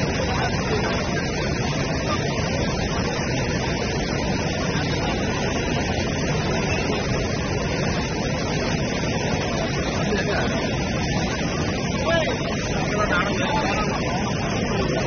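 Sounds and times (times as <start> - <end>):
floodwater rushing and pouring: 0.0 - 15.0.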